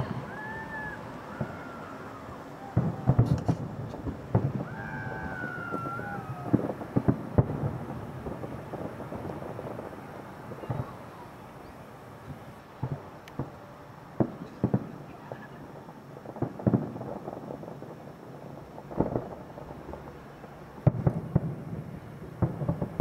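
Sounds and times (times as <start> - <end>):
firework shells bursting: 0.0 - 13.6, 14.2 - 23.0.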